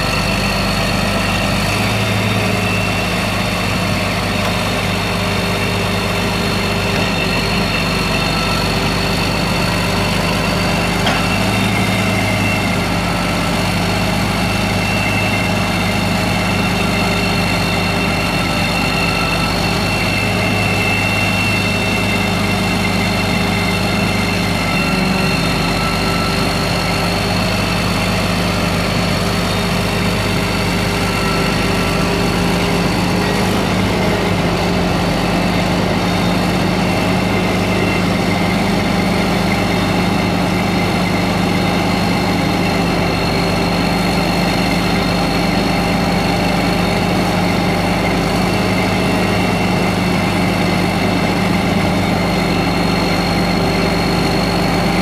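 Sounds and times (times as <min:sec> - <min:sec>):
diesel truck engine idling: 0:00.0 - 0:55.0
high whine: 0:00.0 - 0:55.0.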